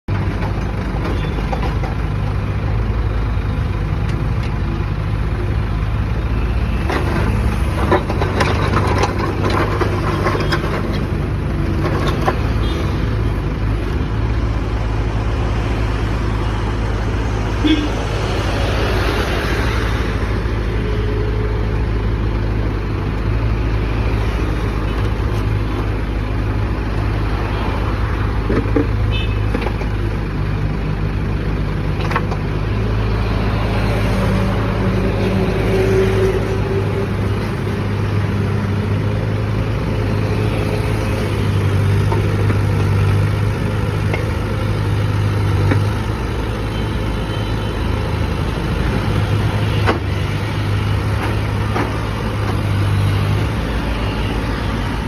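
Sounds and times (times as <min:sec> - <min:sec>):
diesel engine running under load: 0:00.1 - 0:55.0.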